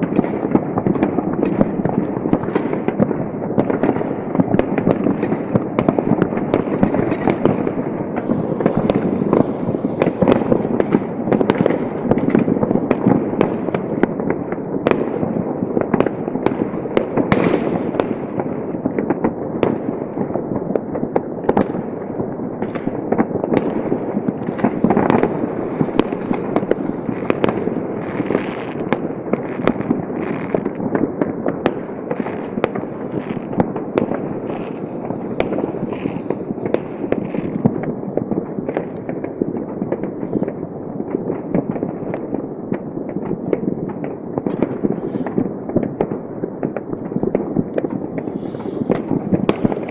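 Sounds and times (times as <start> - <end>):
fireworks and firecrackers banging: 0.0 - 49.9.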